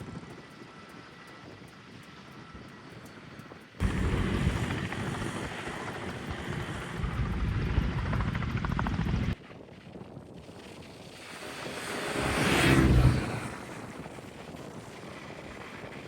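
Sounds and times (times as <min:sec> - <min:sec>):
helicopter rotor rumble: 0:00.0 - 0:16.0.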